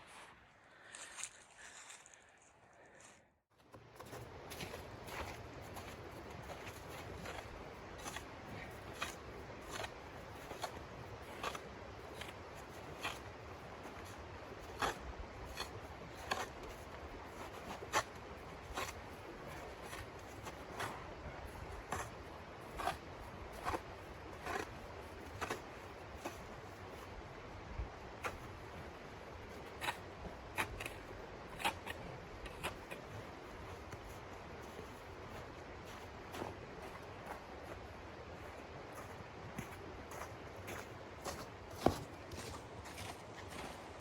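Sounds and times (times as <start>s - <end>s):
footsteps crunching in snow: 0.0s - 44.0s.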